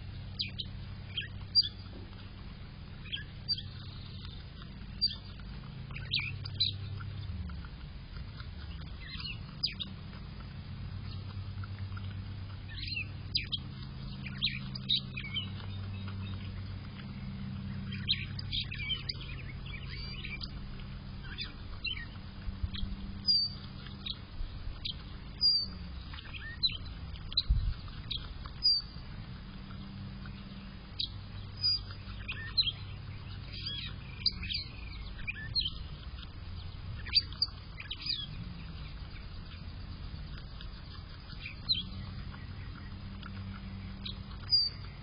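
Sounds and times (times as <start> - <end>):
animal chewing with crunchy bites: 0.0 - 45.0
birds chirping: 0.0 - 45.0
steady low hum: 0.0 - 45.0.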